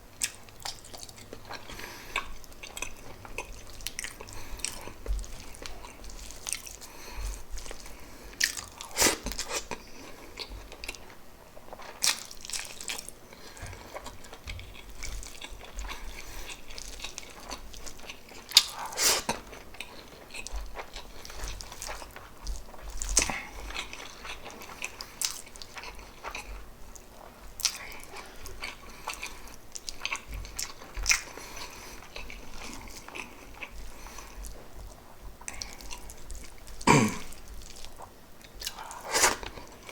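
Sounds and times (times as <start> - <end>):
person chewing with wet smacks: 0.1 - 39.9.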